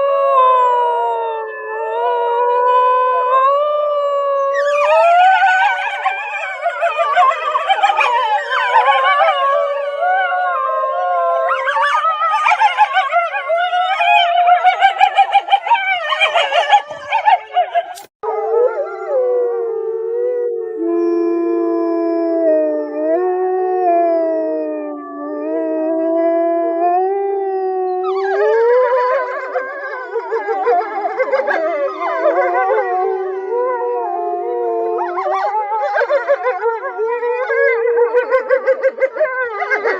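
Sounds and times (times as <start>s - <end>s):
wolves howling: 0.0s - 39.9s.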